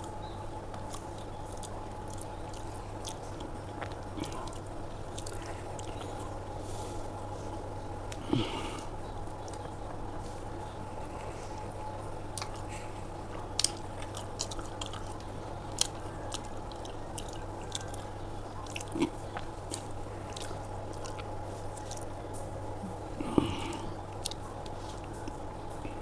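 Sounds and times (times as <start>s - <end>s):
steady low hum: 0.0s - 26.0s
person chewing food: 0.7s - 26.0s.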